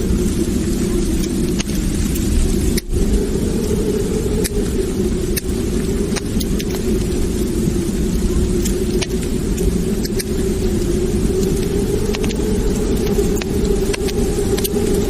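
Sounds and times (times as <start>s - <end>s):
fire pops and snaps: 0.0s - 15.0s
wood fire roaring: 0.0s - 15.0s.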